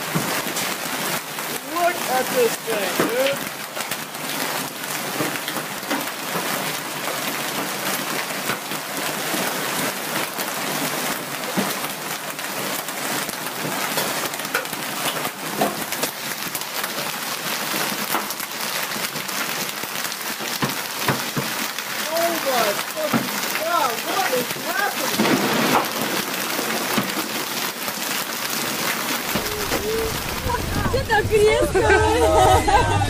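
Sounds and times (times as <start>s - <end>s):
hailstones striking surfaces: 0.0s - 31.6s
rain hissing: 0.0s - 33.0s.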